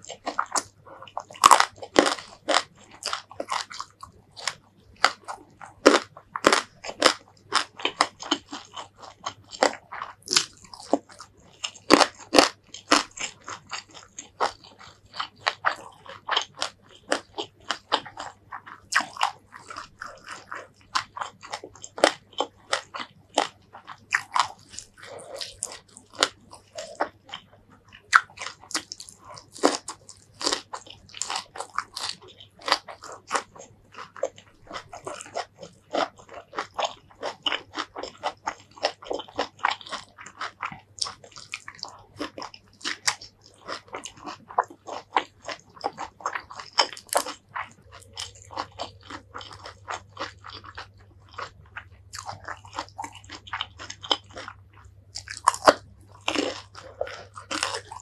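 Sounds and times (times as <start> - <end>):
person chewing crunchy vegetables: 0.0 - 58.0.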